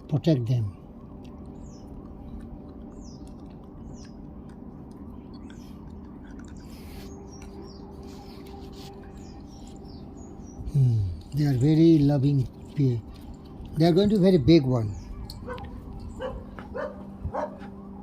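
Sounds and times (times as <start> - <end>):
steady low hum: 0.0 - 18.0
small bird chirping: 1.4 - 17.6.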